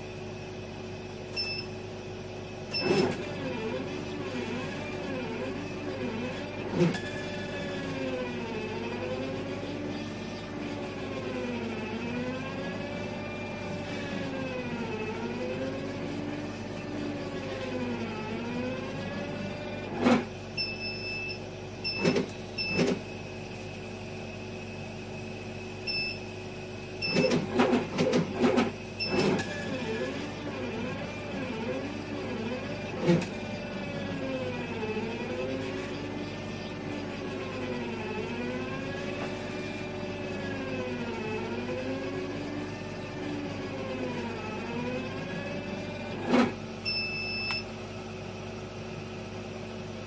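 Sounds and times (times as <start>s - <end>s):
stepper motors whining: 0.0s - 50.0s.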